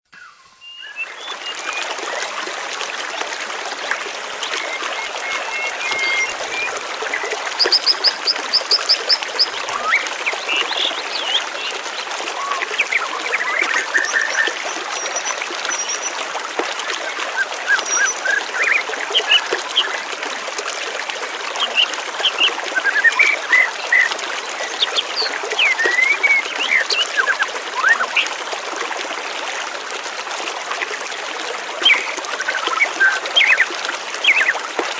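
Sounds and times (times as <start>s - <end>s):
flowing water: 0.1s - 34.9s.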